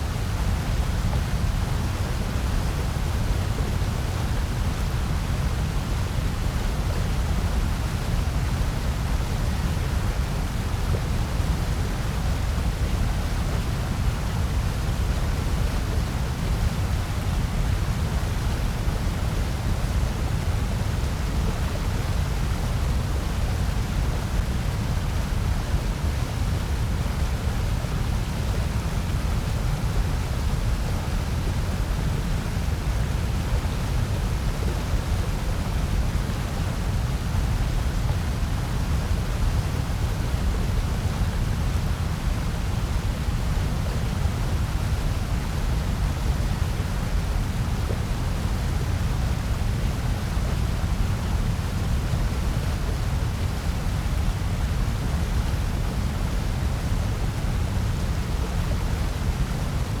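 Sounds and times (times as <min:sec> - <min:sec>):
white noise: 0:00.0 - 1:00.0.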